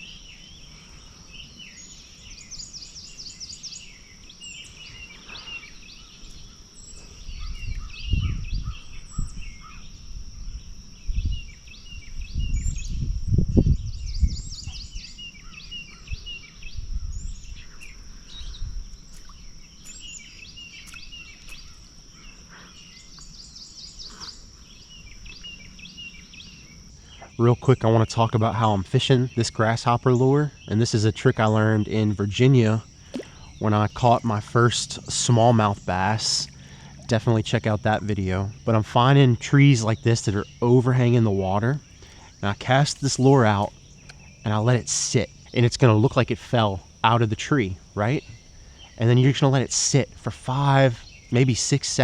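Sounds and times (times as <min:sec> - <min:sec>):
birds chirping and trilling: 0:00.0 - 0:52.0
high-pitched insect drone: 0:00.0 - 0:52.0.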